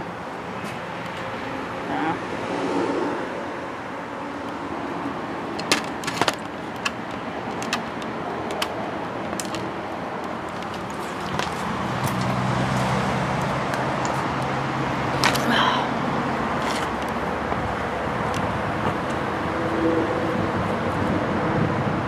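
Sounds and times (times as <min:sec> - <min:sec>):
low engine hum: 0:00.0 - 0:22.0
road traffic noise: 0:00.0 - 0:22.0.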